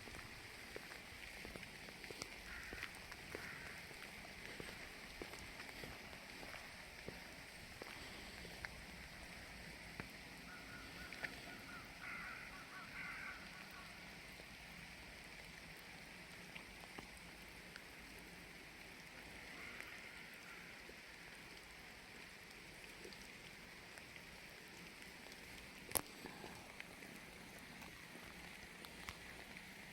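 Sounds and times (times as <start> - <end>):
outdoor background hiss: 0.0 - 29.9.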